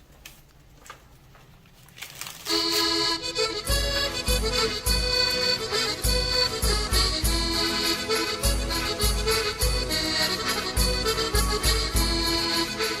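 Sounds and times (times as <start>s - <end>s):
background music with steady beat: 2.5s - 13.0s.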